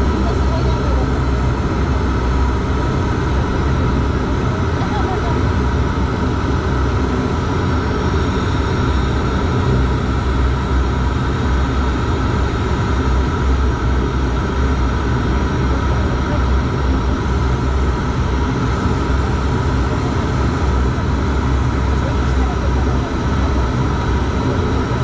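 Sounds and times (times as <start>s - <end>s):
propeller engine drone: 0.0s - 25.0s.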